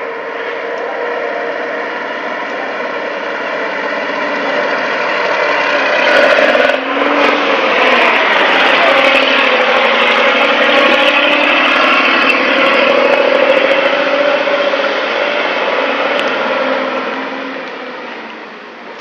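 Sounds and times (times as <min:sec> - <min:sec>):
logging truck engine passing: 0:00.0 - 0:19.0.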